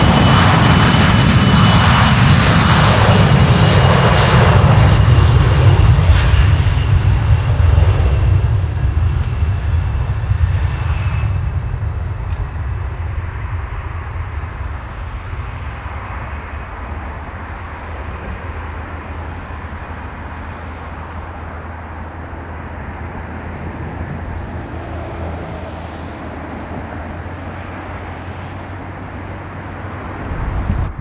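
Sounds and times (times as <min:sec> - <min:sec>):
aircraft engine rumble: 0:00.0 - 0:31.0.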